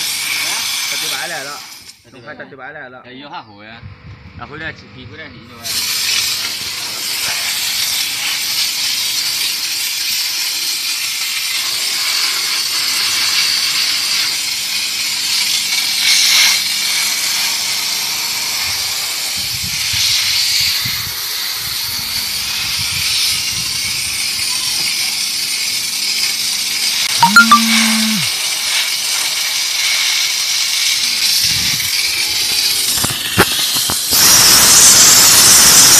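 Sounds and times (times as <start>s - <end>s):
steam jet hissing: 0.0s - 2.0s, 5.6s - 27.5s, 28.3s - 35.9s.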